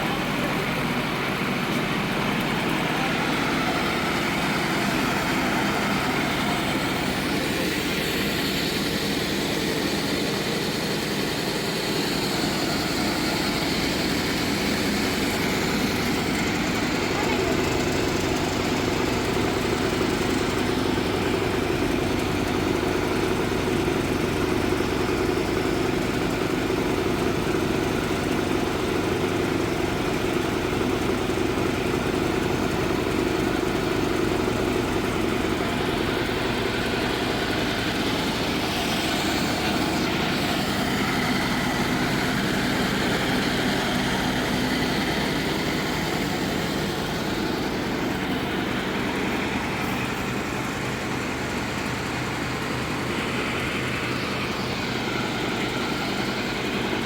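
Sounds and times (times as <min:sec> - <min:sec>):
engine-driven machine running: 0:00.0 - 0:57.0.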